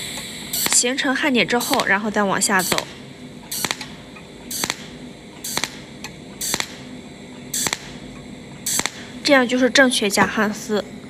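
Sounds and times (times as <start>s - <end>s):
faint steady hum: 0.0s - 11.0s
welding machine hissing zaps: 0.0s - 11.0s.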